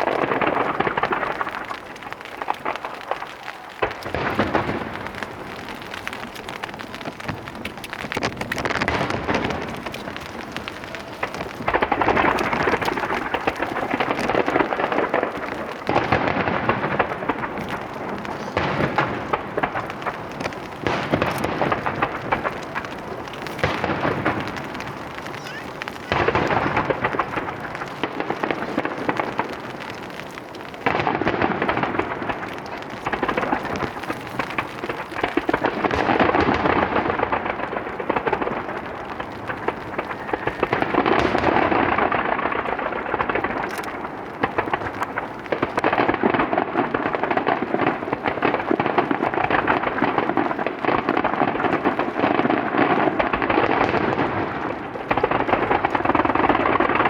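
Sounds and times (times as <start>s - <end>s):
fireworks booming: 0.0s - 57.0s
fireworks crackling: 0.0s - 57.0s.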